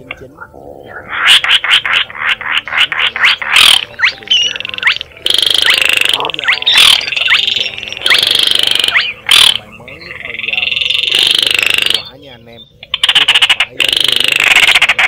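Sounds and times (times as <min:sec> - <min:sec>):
bird calls with rattling trills: 0:00.0 - 0:15.0
frogs croaking: 0:00.0 - 0:15.0.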